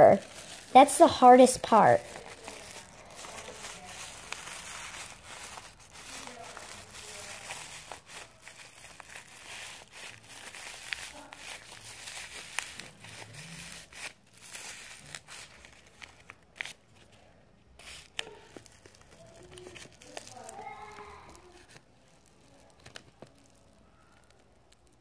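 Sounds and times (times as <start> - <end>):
sharp crackles: 0.0 - 16.7, 17.8 - 25.0
paper and plastic crinkling: 0.0 - 25.0.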